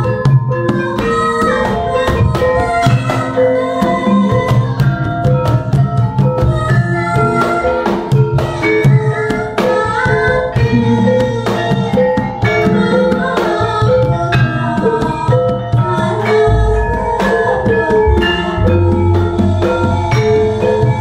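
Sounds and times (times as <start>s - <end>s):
gong-kettles: 0.0s - 9.0s, 10.6s - 21.0s
hand drum beating: 0.0s - 21.0s
ringing struck metallophones: 0.0s - 21.0s.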